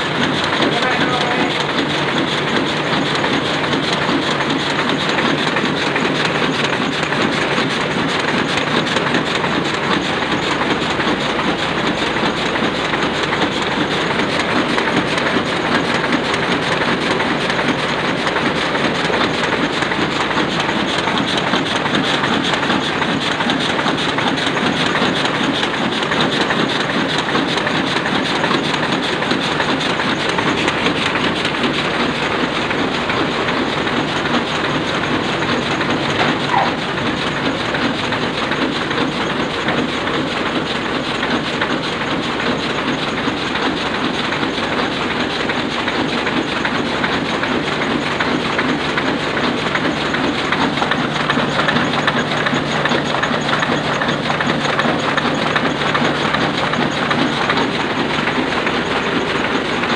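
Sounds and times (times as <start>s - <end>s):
printing press clattering: 0.0s - 59.9s.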